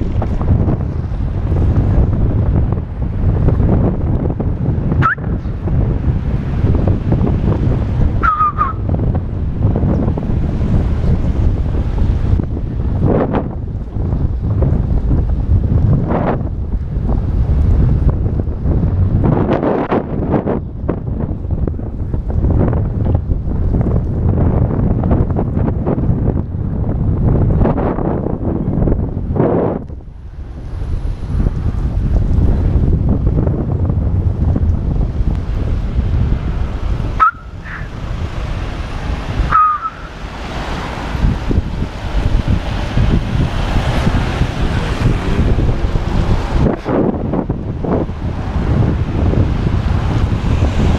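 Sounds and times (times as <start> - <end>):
bicycle road rumble: 0.0 - 50.9
wind buffeting microphone: 0.0 - 50.9.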